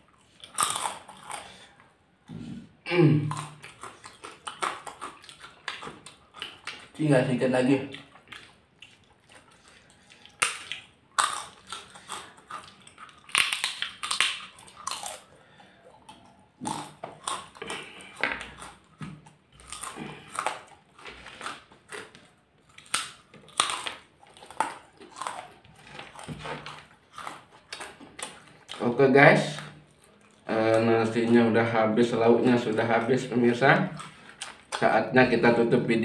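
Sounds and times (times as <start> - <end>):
people chewing and crunching: 0.0 - 35.6.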